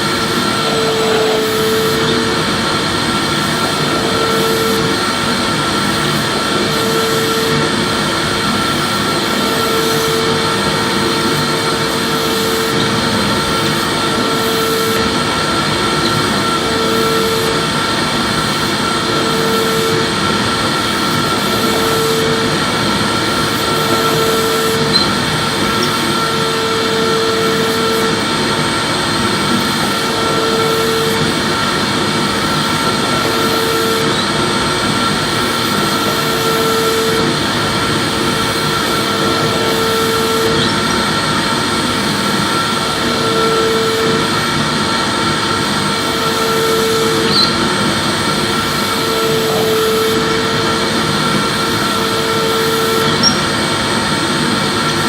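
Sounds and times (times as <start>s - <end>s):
vacuum cleaner whine: 0.0s - 55.0s.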